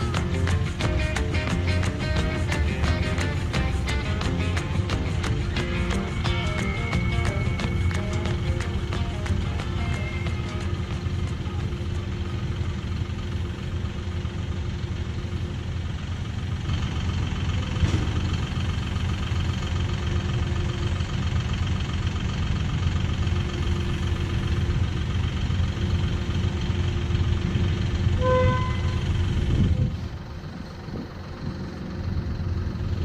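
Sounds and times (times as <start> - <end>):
heavy equipment engine rumbling: 0.0 - 33.0.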